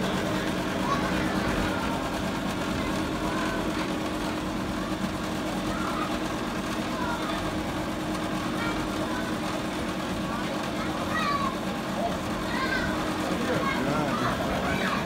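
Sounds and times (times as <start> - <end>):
cotton candy machine motor hum: 0.0 - 15.0
voices chattering: 0.0 - 15.0.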